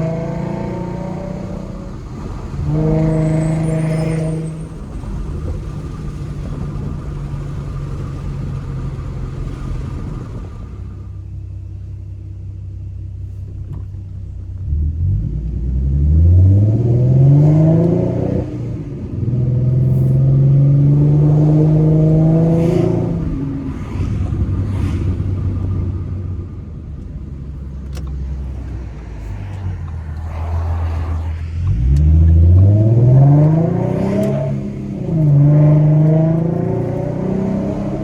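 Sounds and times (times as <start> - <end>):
car engine revving at full throttle: 0.0 - 11.0, 13.7 - 38.0.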